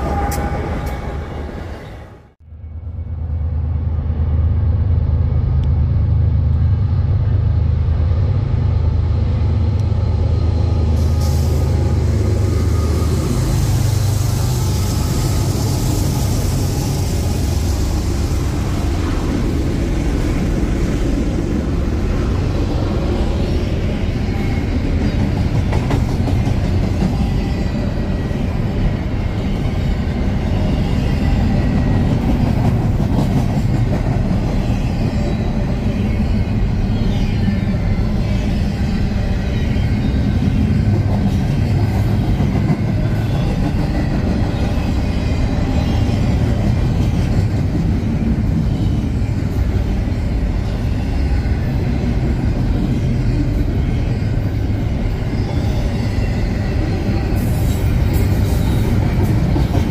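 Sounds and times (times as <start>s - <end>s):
diesel locomotive engine drone: 0.0s - 59.9s
freight cars rumbling on rails: 0.0s - 59.9s.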